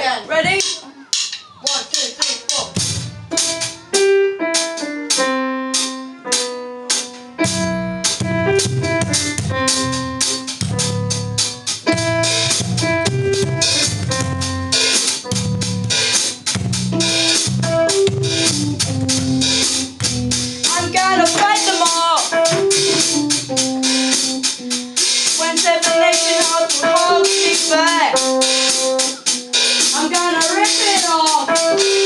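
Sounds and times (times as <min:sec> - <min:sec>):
drum kit: 0:00.4 - 0:32.0
keyboard notes: 0:00.5 - 0:32.0.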